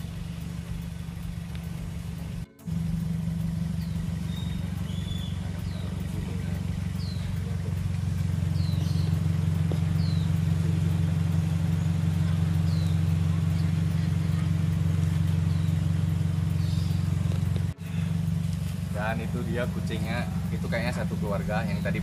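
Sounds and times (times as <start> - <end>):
bird chirping: 0.0 - 22.0
vehicle engine idling: 0.0 - 22.0.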